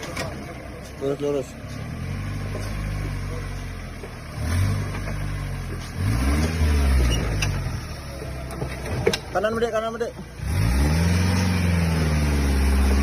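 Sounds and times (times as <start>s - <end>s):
jeep engine revving: 0.0s - 13.0s.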